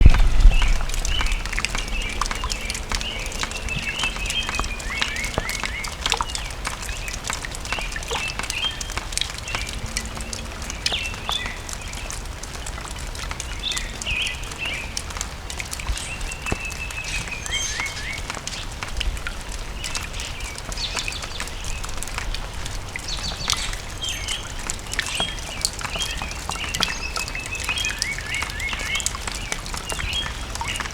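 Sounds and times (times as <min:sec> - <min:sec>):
rainwater dripping from gutter: 0:00.0 - 0:30.9
small birds chirping: 0:00.1 - 0:30.9.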